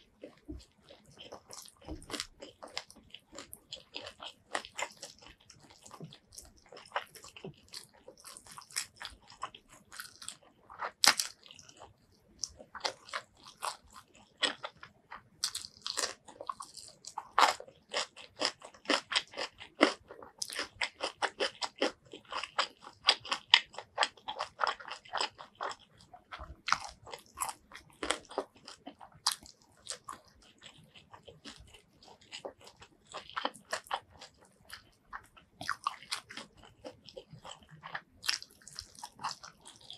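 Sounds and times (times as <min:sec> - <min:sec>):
crunching fried chicken bites: 0:00.2 - 0:39.9.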